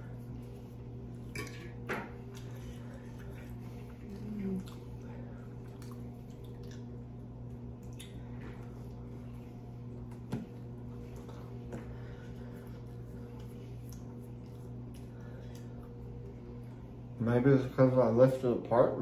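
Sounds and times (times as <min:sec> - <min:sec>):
quiet chewing: 0:00.0 - 0:17.1
low voice hum: 0:02.0 - 0:19.0.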